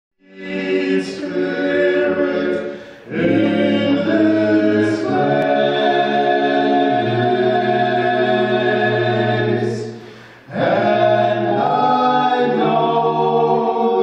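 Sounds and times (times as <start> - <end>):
male choir singing a cappella: 0.2 - 14.0.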